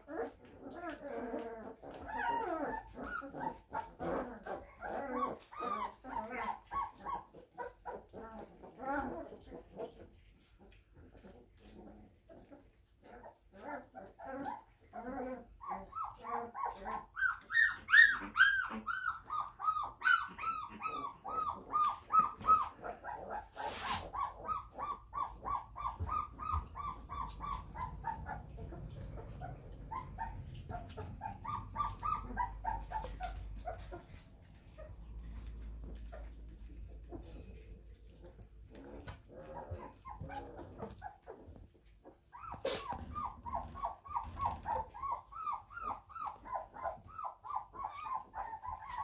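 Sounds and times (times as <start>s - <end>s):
puppies whining and yelping: 0.0s - 49.0s.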